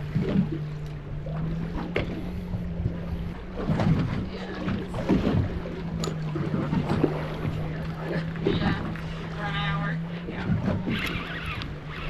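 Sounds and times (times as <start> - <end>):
outboard engines idling: 0.0 - 12.0
water noise: 0.0 - 12.0.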